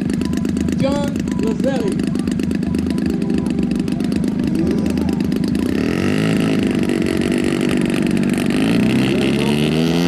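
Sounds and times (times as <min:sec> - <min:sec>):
model airplane engine running: 0:00.0 - 0:09.8.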